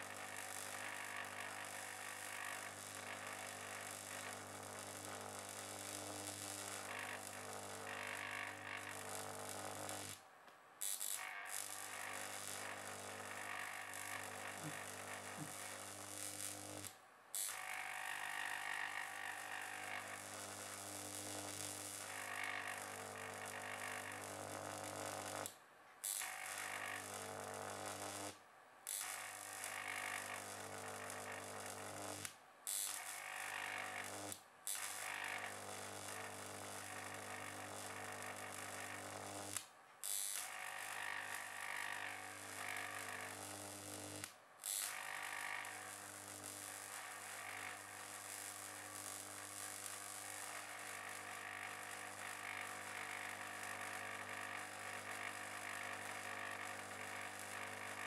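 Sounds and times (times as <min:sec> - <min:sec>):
electric arc buzzing and hissing: 0:00.0 - 0:10.2, 0:10.8 - 0:58.0.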